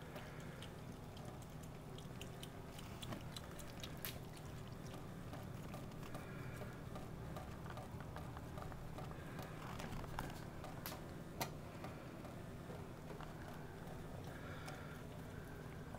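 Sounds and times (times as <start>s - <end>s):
kittens lapping water: 0.0s - 15.9s.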